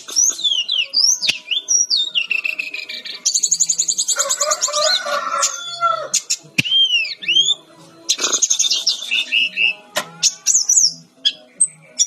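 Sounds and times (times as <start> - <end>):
flycatcher singing whistled song: 0.0 - 4.6, 5.4 - 12.0.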